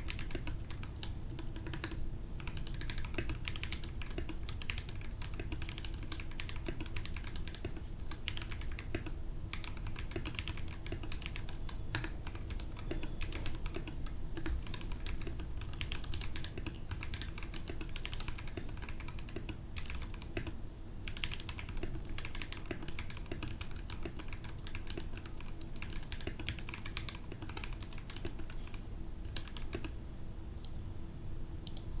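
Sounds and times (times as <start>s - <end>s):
mechanical keyboard typing: 0.0s - 30.0s
faint steady hum: 0.0s - 32.0s.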